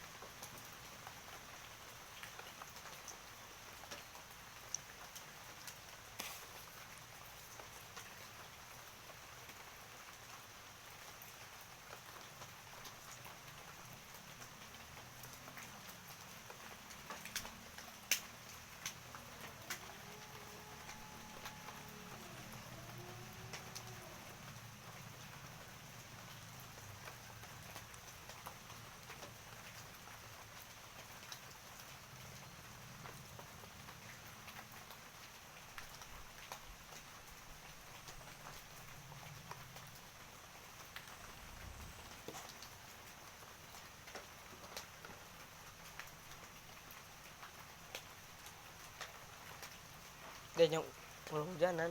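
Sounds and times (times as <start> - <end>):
rain hissing: 0.0 - 51.9
raindrops ticking: 0.0 - 51.9.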